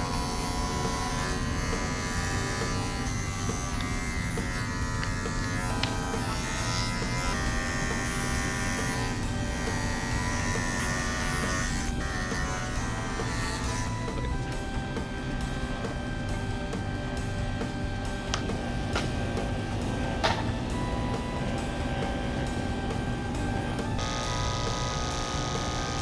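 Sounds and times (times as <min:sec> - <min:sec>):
dog clipper buzzing: 0:00.0 - 0:26.0.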